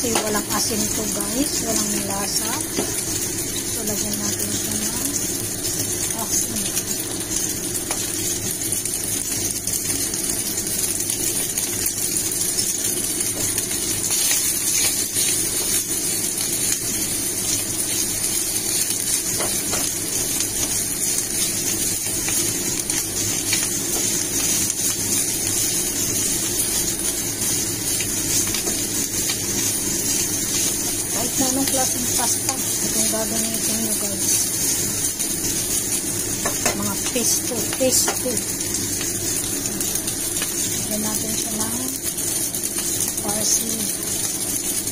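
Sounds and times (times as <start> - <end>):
pasta sizzling in skillet: 0.0 - 44.9.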